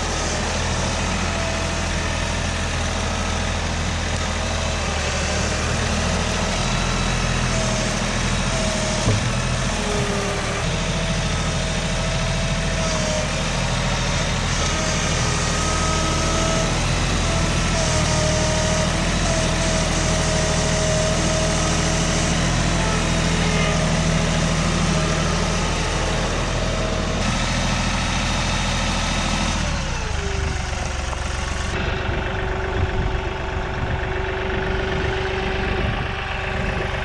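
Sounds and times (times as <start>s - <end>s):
large engine idling: 0.0s - 37.0s.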